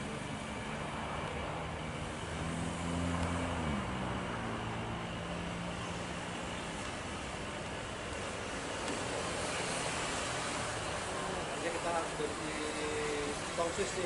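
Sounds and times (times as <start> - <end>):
jet airliner engines taxiing: 0.0 - 14.0.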